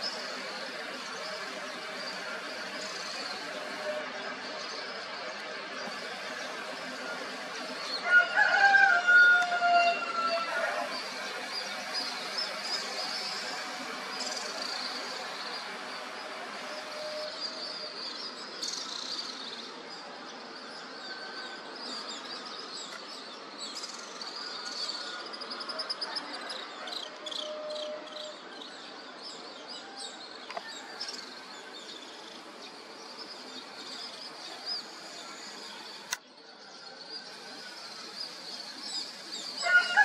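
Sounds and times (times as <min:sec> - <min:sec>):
town background noise: 0:00.0 - 0:40.0.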